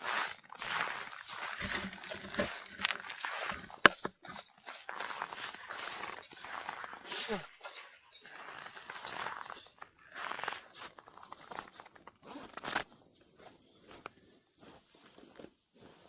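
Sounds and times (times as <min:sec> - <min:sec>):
crunching of snow and ice: 0:00.0 - 0:16.0.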